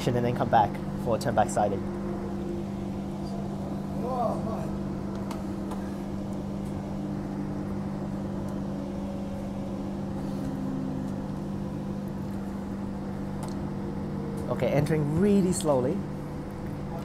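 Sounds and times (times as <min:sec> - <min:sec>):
electric train hum and running: 0:00.0 - 0:17.0.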